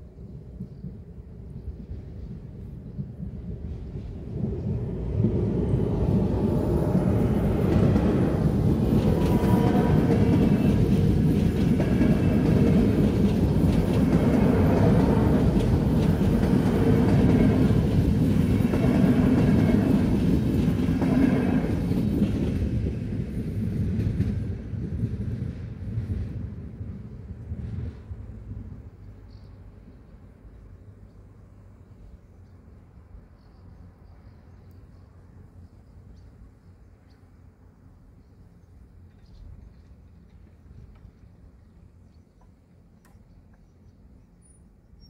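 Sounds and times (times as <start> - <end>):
train wheels rumbling on track: 0.0 - 45.0.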